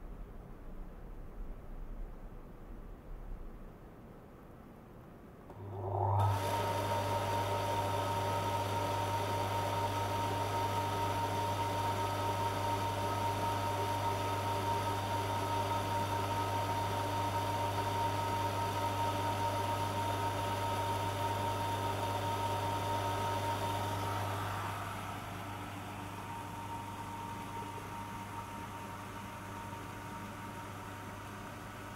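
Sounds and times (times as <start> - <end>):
pump humming: 5.5 - 31.9
pump whine: 5.5 - 31.9.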